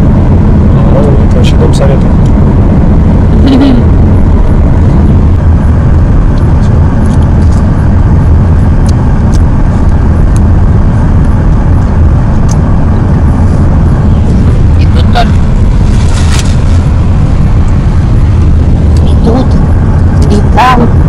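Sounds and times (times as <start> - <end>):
car driving rumble inside cabin: 0.0 - 21.0.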